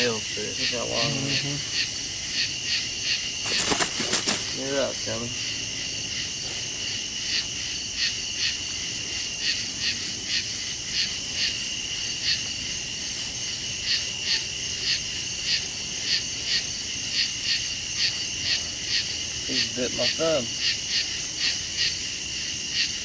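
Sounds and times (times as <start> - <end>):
insect chirps: 0.0 - 23.0
insects trilling: 0.0 - 23.0.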